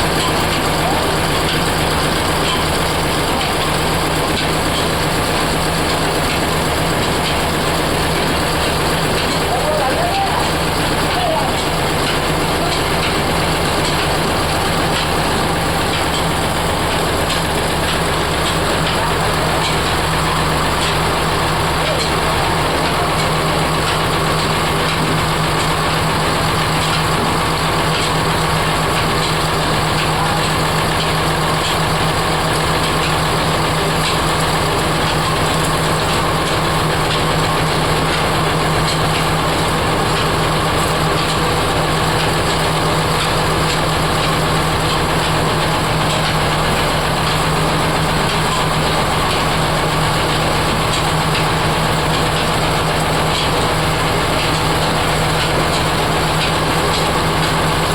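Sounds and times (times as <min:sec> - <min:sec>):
oil press machine droning: 0:00.0 - 0:57.9.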